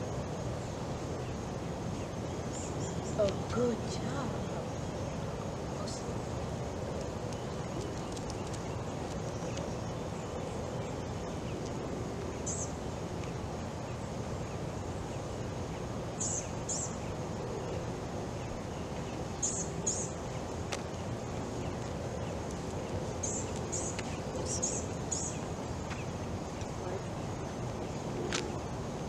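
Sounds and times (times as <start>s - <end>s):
low background noise: 0.0s - 29.0s.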